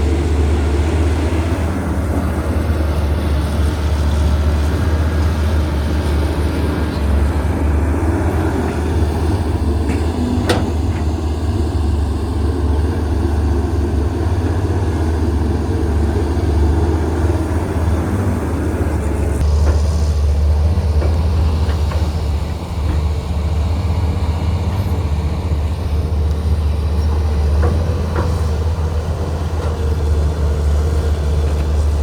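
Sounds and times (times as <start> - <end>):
excavator diesel engine droning: 0.0 - 32.0.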